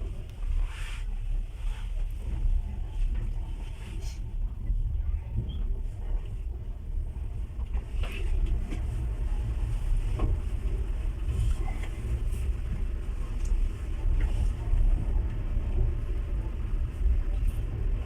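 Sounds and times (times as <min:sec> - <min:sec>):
passenger train rumbling: 0:00.0 - 0:18.0.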